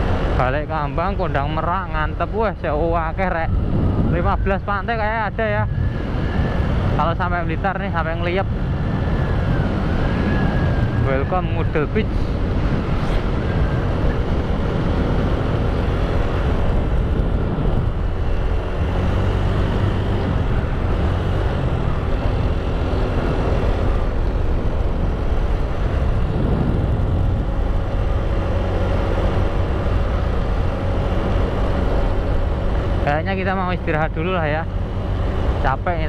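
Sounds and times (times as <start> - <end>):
motorbike engine hum: 0.0 - 36.0
wind and road noise: 0.0 - 36.0.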